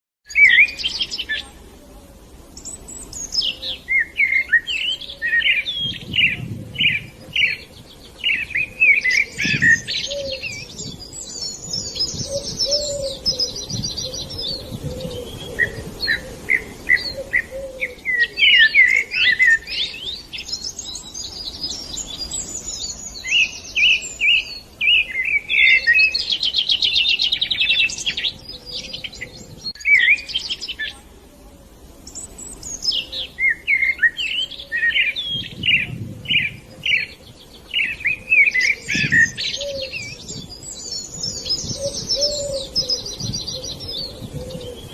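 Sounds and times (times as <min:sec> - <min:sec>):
songbirds chirping and trilling: 0:00.2 - 0:44.9.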